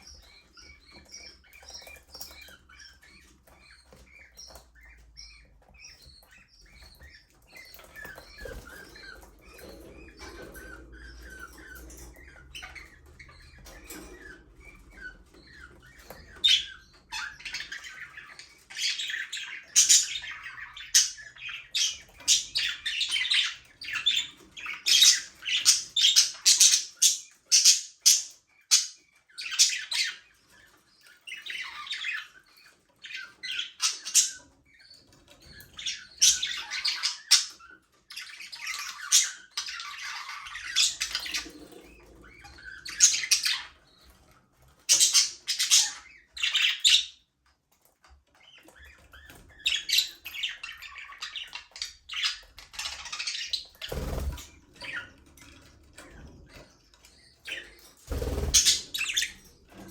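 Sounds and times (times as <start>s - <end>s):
budgerigars chattering and squawking: 0.0s - 59.9s.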